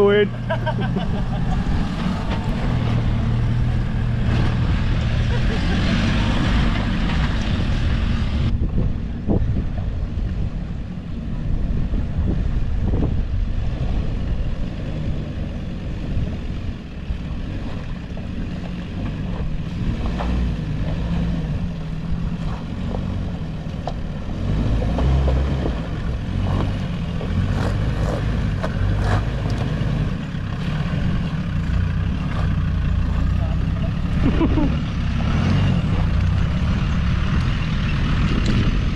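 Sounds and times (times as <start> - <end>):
vehicle clattering over rough ground: 0.0 - 38.9
vehicle engine at low revs: 0.0 - 38.9.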